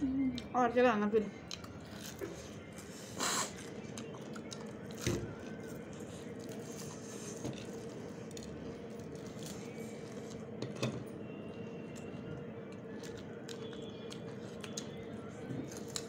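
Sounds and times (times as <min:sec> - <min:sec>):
faint steady hum: 0:00.0 - 0:16.0
crunchy chewing of fried food: 0:01.4 - 0:16.0.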